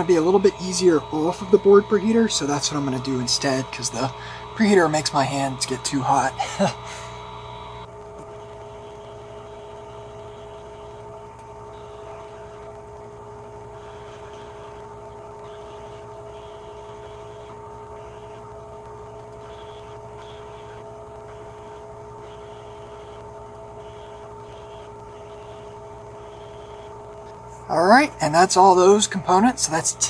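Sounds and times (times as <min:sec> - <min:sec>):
fan whine: 0:00.0 - 0:30.0
low hum: 0:00.0 - 0:30.0.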